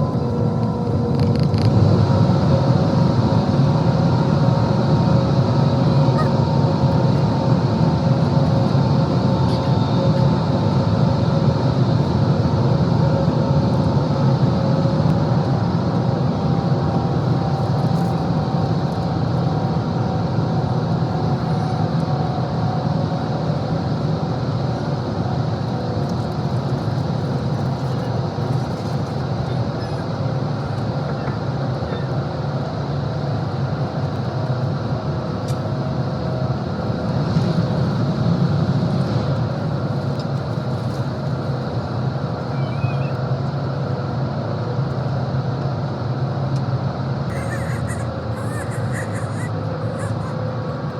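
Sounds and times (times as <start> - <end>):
train rumble: 0.0 - 44.2, 46.6 - 50.9.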